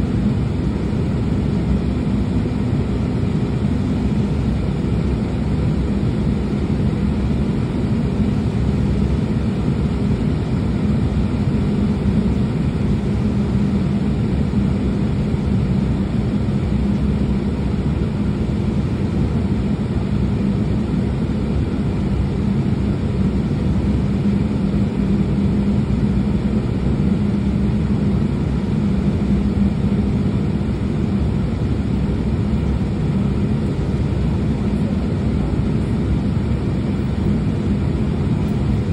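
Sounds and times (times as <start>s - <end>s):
jet engine idling in cabin: 0.0s - 38.9s.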